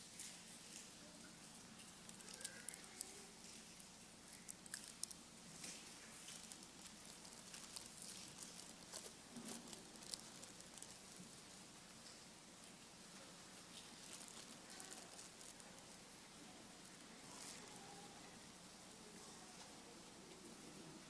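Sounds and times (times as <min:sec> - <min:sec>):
faint clicks and rustles of cups: 0:00.0 - 0:21.0
low room hum: 0:00.0 - 0:21.0.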